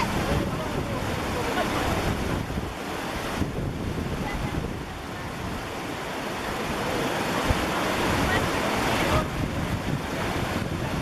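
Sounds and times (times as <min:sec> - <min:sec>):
waterfall rushing: 0:00.0 - 0:11.0
wind buffeting microphone: 0:00.0 - 0:11.0.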